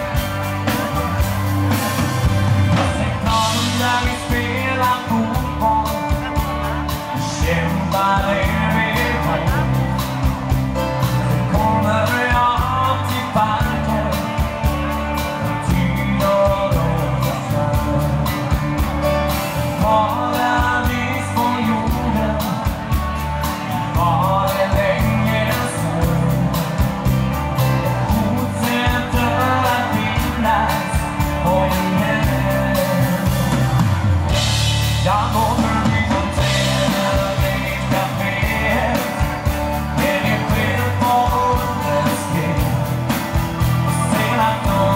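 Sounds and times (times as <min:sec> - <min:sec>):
electric band playing: 0:00.0 - 0:44.9
person singing: 0:00.0 - 0:44.9
steady drum beat: 0:00.0 - 0:44.9.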